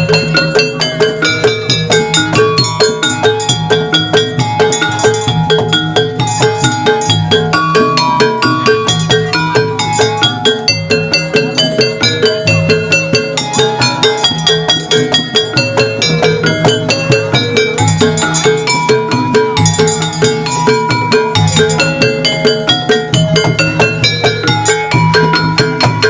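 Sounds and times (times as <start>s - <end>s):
drums: 0.0s - 26.0s
gamelan-style percussion music: 0.0s - 26.0s.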